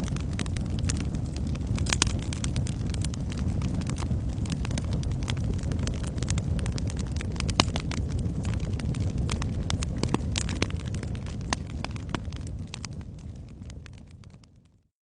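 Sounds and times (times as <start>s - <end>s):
wood fire crackling: 0.0s - 14.8s.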